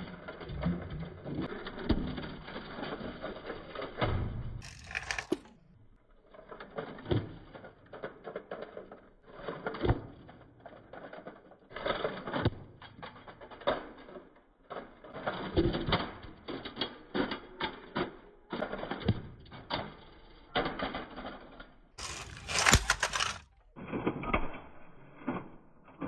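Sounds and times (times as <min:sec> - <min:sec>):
toy car rolling on concrete: 0:00.0 - 0:24.4.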